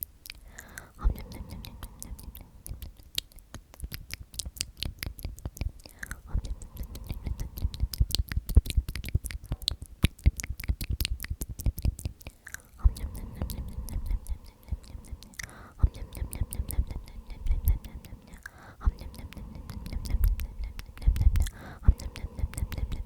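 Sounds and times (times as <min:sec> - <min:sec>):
wet lip and tongue clicks: 0:00.0 - 0:23.0
person whispering: 0:00.4 - 0:03.5, 0:05.2 - 0:09.9, 0:11.9 - 0:23.0.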